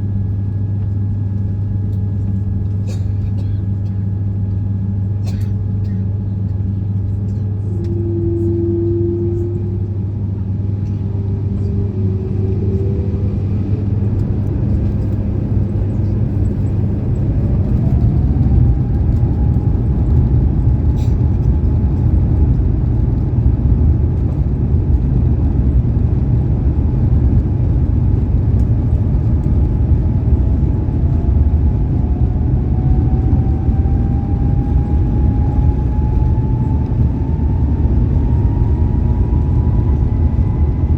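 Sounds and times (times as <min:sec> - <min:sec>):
aircraft cabin engine hum: 0:00.0 - 0:40.9
jet engine whine: 0:00.0 - 0:40.9.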